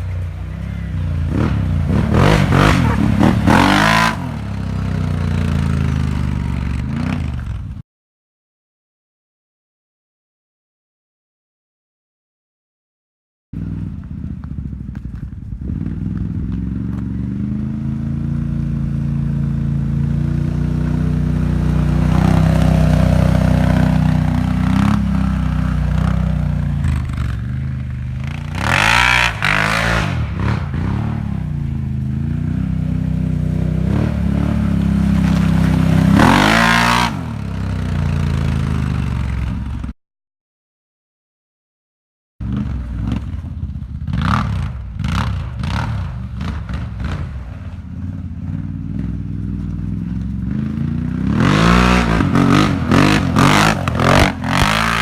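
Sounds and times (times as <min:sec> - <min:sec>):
atv engine revving: 0:00.0 - 0:07.8, 0:13.6 - 0:39.9, 0:42.4 - 0:55.0.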